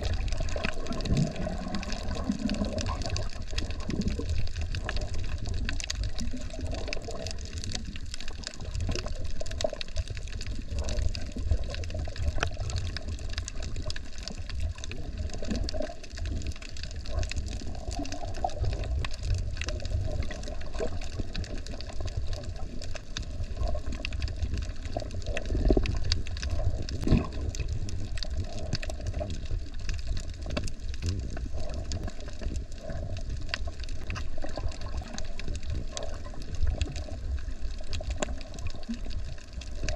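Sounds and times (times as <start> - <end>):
faint clicks: 0.0 - 39.9
underwater rumble of moving water: 0.0 - 39.9.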